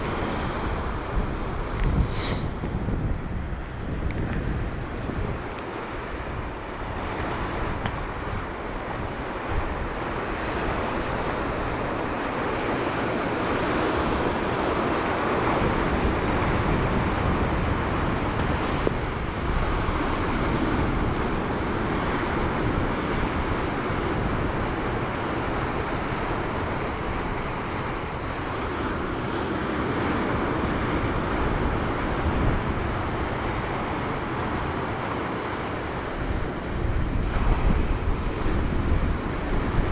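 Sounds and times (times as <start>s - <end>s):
surf breaking on shore: 0.0s - 39.9s
wind buffeting microphone: 0.0s - 39.9s.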